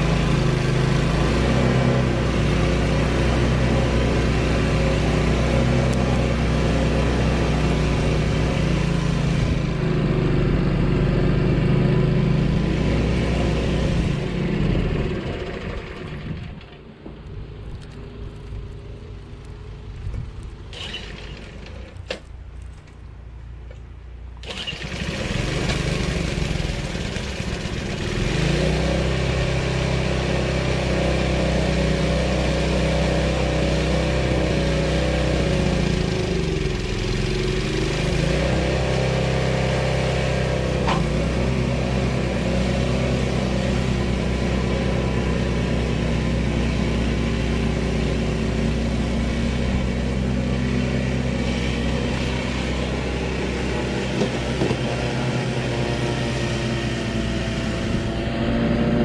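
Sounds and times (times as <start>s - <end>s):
snowblower engine running: 0.0s - 22.8s, 24.3s - 59.0s.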